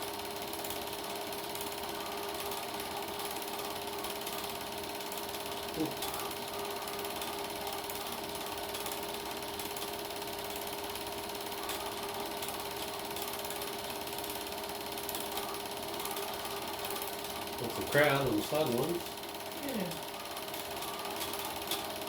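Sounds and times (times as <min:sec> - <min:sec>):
constant hum: 0:00.0 - 0:22.0
film projector clatter: 0:00.0 - 0:22.0.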